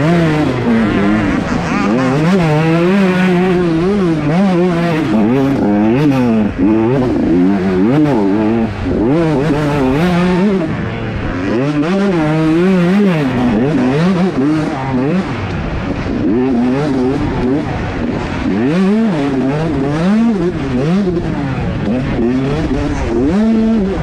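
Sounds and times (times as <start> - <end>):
motorbike engine revving hard: 0.0 - 24.0.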